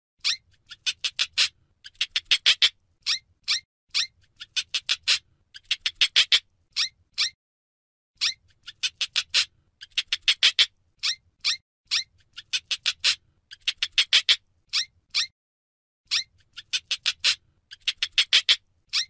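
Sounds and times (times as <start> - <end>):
hamster squeaking: 0.2 - 7.4, 8.2 - 15.4, 16.1 - 19.0.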